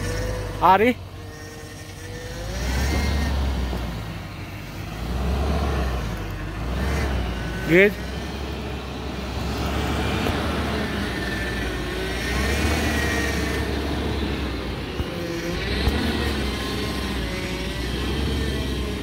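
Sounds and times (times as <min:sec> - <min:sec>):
suv engine running: 0:00.0 - 0:19.0.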